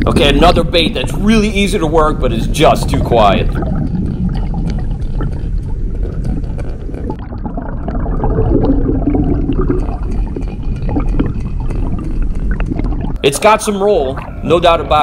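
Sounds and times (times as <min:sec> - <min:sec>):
water sloshing and gurgling: 0:00.0 - 0:15.0.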